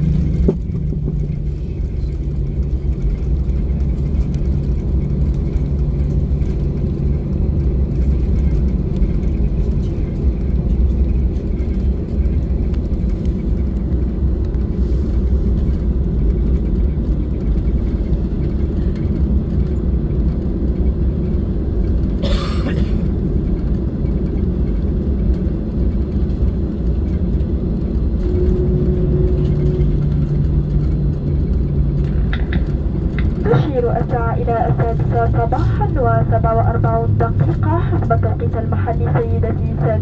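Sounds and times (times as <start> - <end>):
airplane cabin rumble: 0.0 - 40.0
low hum: 0.0 - 40.0.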